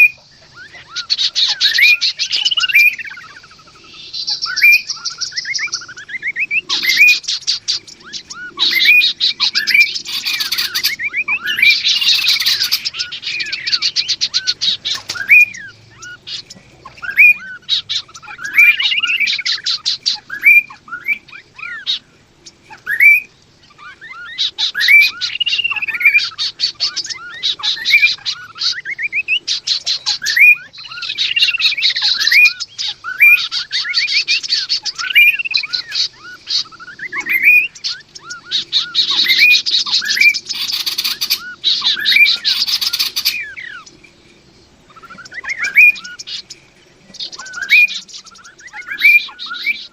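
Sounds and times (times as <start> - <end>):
birds chirping: 0.0 - 49.9
birds rattling trills: 0.0 - 49.9.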